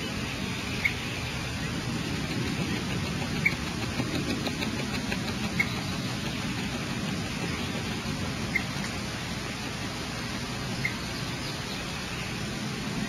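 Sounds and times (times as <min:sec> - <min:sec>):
microphone hiss and low rumble: 0:00.0 - 0:13.0.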